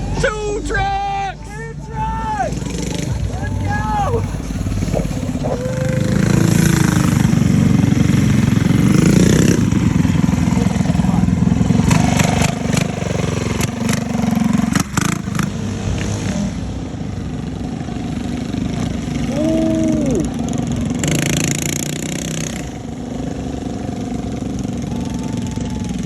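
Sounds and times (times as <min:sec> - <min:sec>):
minibike engines racing: 0:00.0 - 0:26.0.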